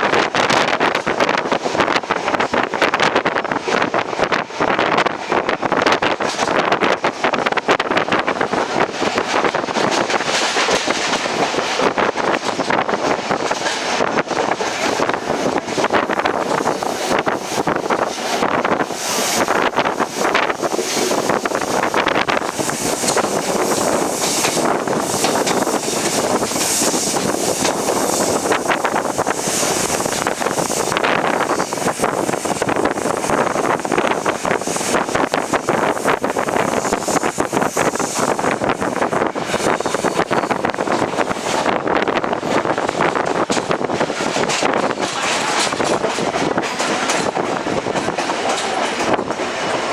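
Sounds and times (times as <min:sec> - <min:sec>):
train wheels rumbling on rails: 0:00.0 - 0:49.9
wind buffeting microphone: 0:00.0 - 0:49.9.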